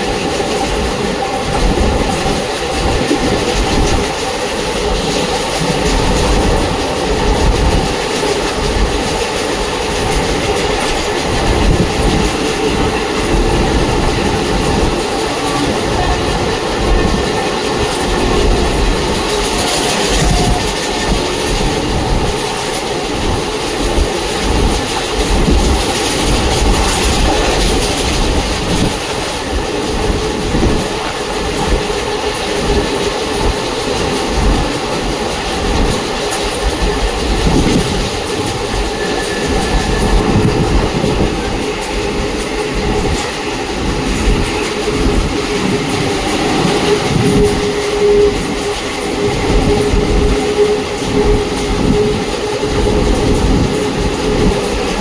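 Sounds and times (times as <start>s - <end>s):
train coach rumble: 0.0s - 55.0s.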